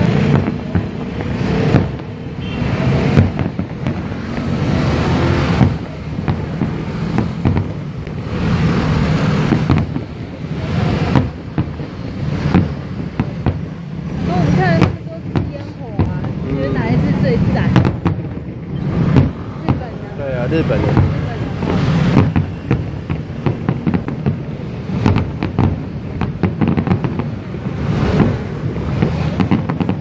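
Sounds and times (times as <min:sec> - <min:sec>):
firework bangs and crackles: 0:00.0 - 0:30.0
low fireworks rumble: 0:00.0 - 0:30.0.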